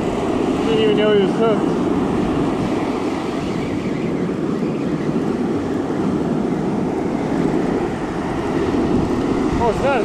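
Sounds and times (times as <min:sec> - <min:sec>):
surf washing up beach: 0:00.0 - 0:10.0
wind buffeting microphone: 0:00.0 - 0:10.0.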